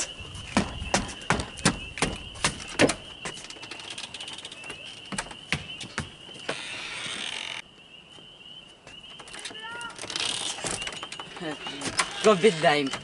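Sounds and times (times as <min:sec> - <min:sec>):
footsteps on wooden boards: 0:00.0 - 0:13.0
insects chirring: 0:00.0 - 0:13.0.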